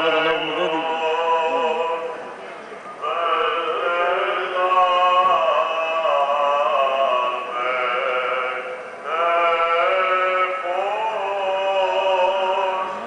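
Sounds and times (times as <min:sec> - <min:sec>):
men chanting a hymn: 0:00.0 - 0:02.2, 0:03.0 - 0:13.0.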